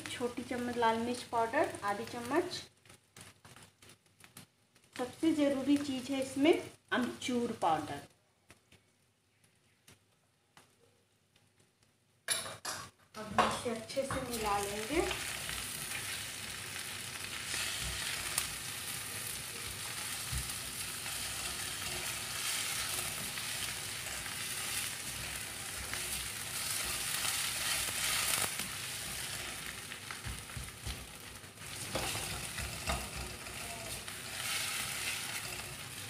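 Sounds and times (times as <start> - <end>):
potatoes sizzling in hot oil: 0.0 - 8.1, 13.6 - 36.0.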